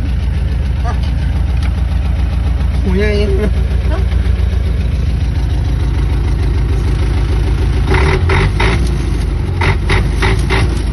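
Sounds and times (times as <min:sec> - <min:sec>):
off-road vehicle engine running: 0:00.0 - 0:10.9.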